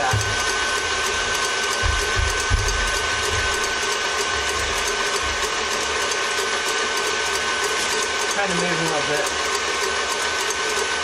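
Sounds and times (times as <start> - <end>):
stand mixer whisk rattling: 0.0 - 11.0.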